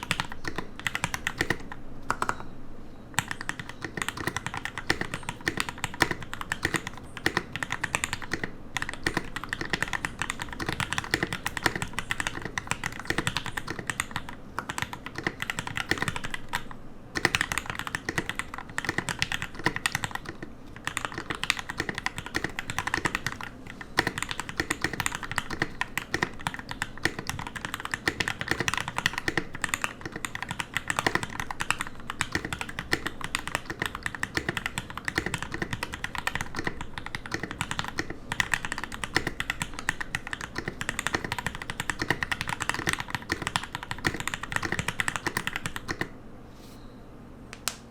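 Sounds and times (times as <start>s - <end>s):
mechanical keyboard typing: 0.0s - 2.5s, 3.2s - 46.2s.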